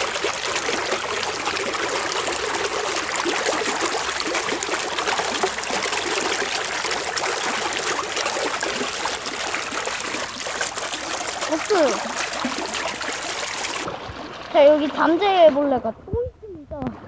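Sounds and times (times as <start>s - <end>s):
shallow water trickling and splashing: 0.0s - 17.0s.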